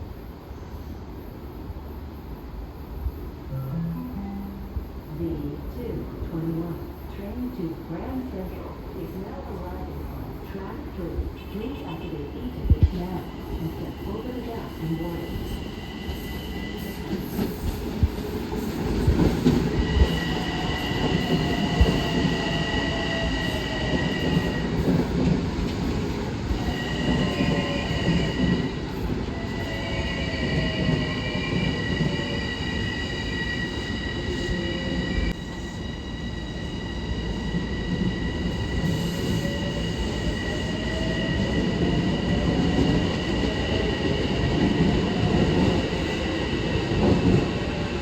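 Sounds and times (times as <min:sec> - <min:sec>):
train low rumble: 0:00.0 - 0:48.0.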